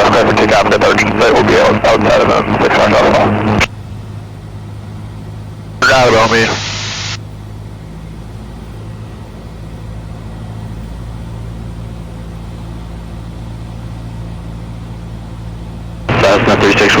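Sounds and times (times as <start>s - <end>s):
airplane engine drone in cabin: 0.0s - 17.0s.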